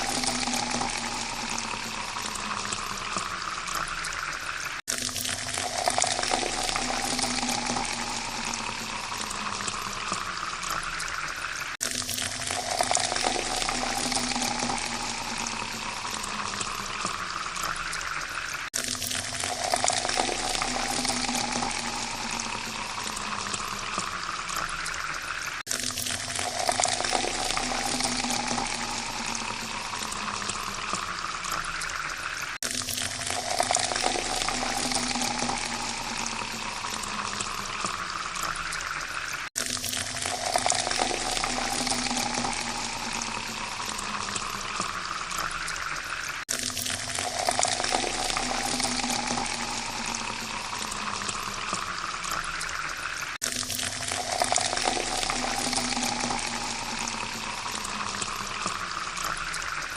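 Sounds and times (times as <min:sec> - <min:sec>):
water pouring into a glass: 0:00.0 - 0:59.9.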